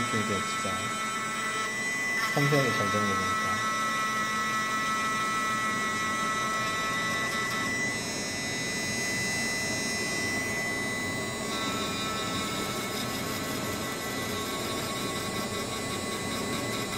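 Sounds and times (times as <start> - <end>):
rotary tool high whine: 0.0 - 16.9.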